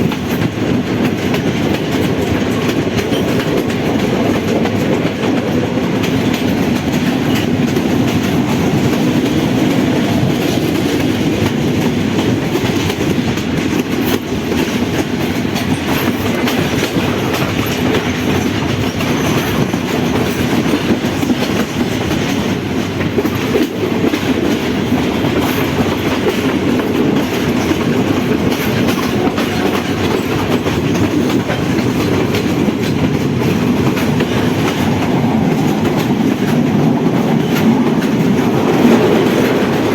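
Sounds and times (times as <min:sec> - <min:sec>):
train rumbling: 0:00.0 - 0:39.9
wheels clicking over rails: 0:00.0 - 0:39.9.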